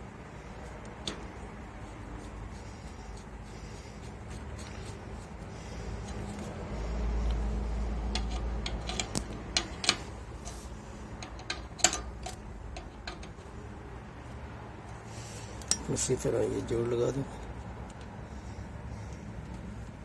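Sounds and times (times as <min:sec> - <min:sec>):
rumble of handling parts: 0:00.0 - 0:20.0.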